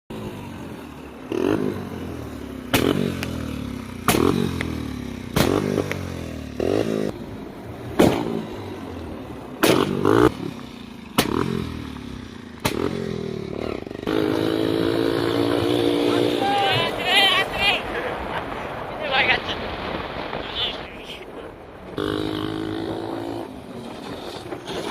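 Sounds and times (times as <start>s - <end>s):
motorcycle engine revving: 0.1s - 18.9s, 21.8s - 24.9s.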